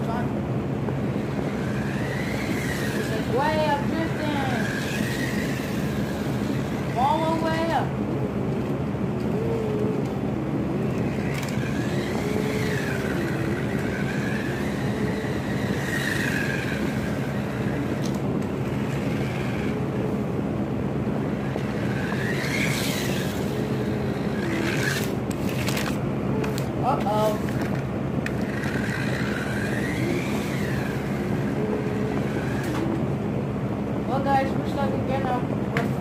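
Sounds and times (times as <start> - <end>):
low hum: 0.0 - 35.7
toy car electric motor whining: 1.0 - 7.9, 9.2 - 20.4, 21.1 - 33.0.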